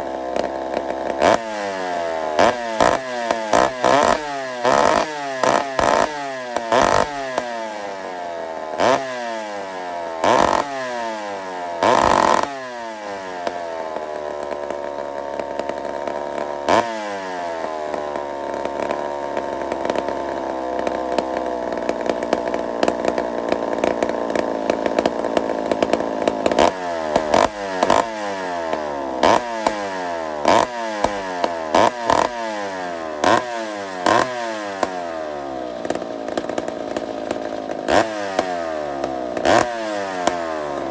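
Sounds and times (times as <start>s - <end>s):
chainsaw revving and idling: 0.0s - 40.9s.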